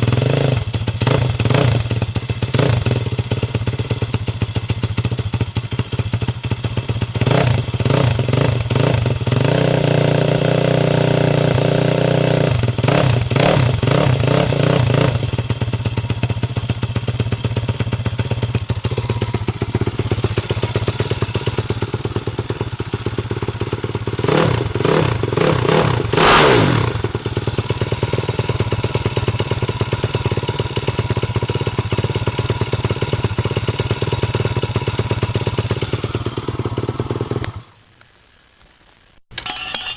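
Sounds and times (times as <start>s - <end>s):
motorcycle engine idling and revving: 0.0s - 37.8s.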